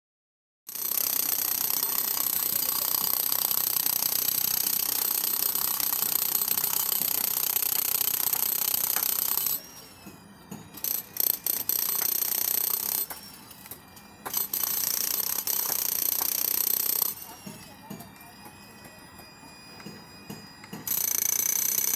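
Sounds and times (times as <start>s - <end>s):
demolition hammer chipping concrete: 0.7s - 21.9s.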